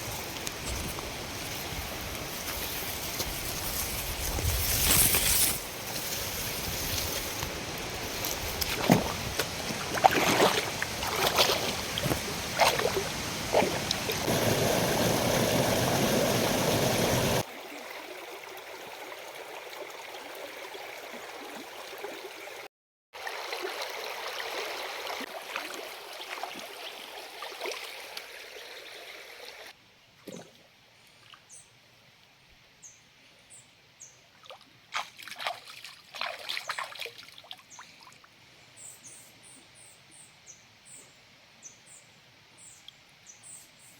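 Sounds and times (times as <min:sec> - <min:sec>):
stream water trickling and splashing: 0:00.0 - 0:31.6, 0:34.3 - 0:38.5.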